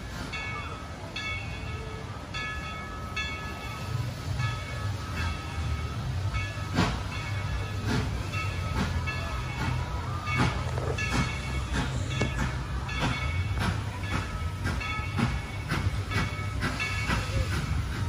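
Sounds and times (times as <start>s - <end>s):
steam locomotive exhaust chuffs: 0.0s - 18.0s.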